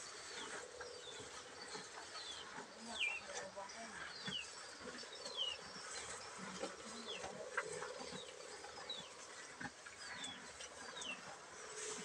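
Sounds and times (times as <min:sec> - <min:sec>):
cattle munching grass: 0:00.0 - 0:12.0.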